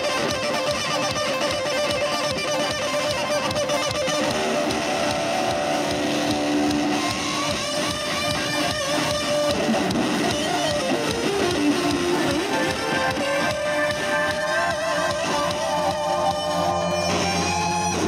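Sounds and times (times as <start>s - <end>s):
electric guitar strummed chords: 0.0s - 18.0s
live band music: 0.0s - 18.0s.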